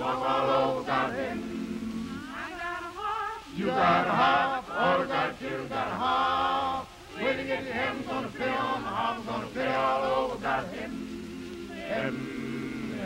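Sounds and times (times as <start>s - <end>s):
church choir singing: 0.0s - 13.0s.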